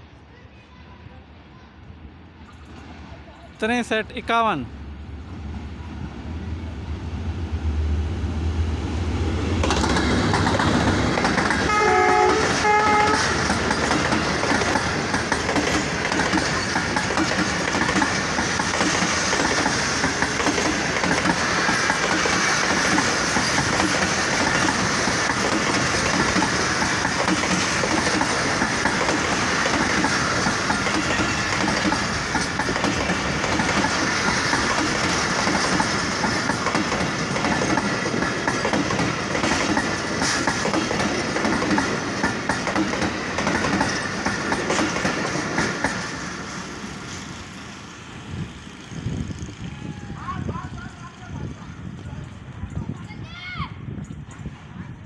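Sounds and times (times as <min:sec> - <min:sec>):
train wheels on rails: 0:02.4 - 0:55.0.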